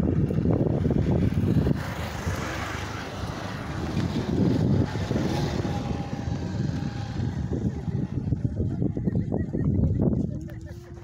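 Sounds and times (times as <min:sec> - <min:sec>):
motorbike running: 0:00.0 - 0:11.0
wind buffeting microphone: 0:00.0 - 0:11.0.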